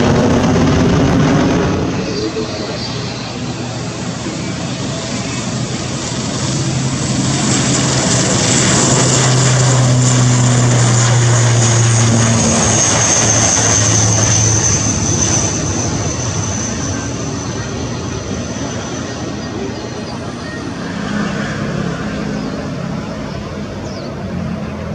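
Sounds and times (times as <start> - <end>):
propeller drone: 0.0 - 24.9
turbine whine: 0.0 - 24.9.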